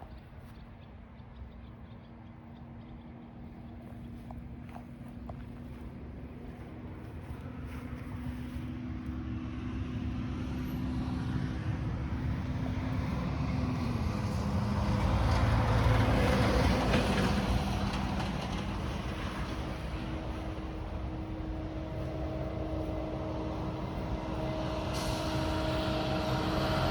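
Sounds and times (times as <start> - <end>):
tractor diesel engine humming: 3.3 - 26.9.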